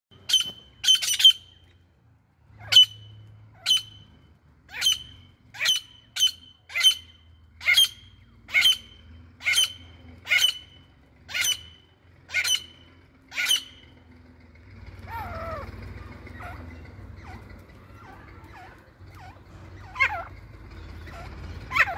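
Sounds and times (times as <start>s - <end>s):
bird harsh call: 0.1s - 1.6s, 4.7s - 13.9s, 15.0s - 21.9s.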